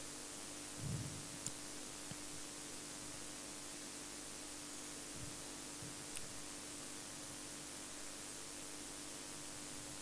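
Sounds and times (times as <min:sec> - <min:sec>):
low even hum: 0:00.0 - 0:10.0.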